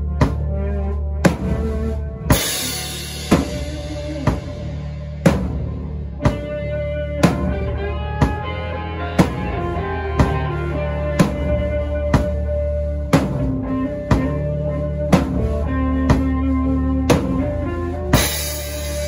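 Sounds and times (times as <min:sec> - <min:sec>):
slow heavy drum beat: 0:00.0 - 0:19.0
sustained low backing notes: 0:00.0 - 0:19.0.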